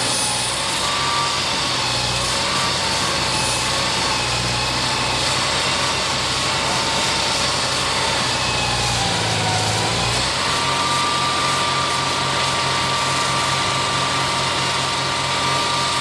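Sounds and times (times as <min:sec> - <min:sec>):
construction machinery engine running: 0:00.0 - 0:16.0.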